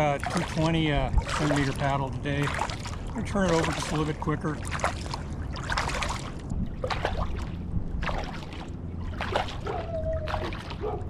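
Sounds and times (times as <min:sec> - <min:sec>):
low rumble of wind and water: 0:00.0 - 0:11.0
paddle strokes splashing: 0:00.0 - 0:11.0.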